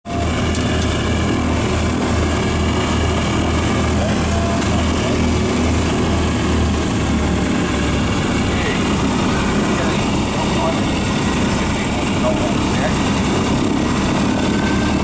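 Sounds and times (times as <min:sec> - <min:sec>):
piston aircraft engines humming: 0:00.1 - 0:15.0.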